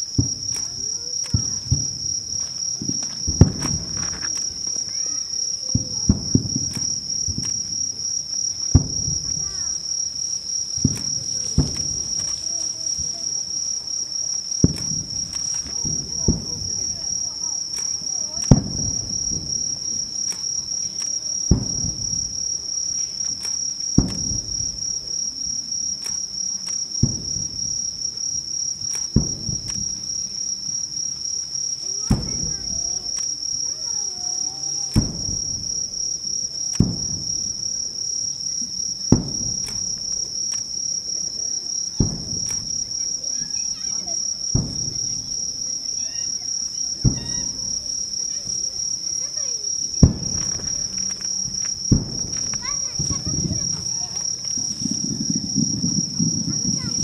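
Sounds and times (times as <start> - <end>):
distant firework shells booming: 0.0 - 30.9, 31.8 - 34.0, 34.8 - 57.0
high-pitched insect trill: 0.0 - 57.0.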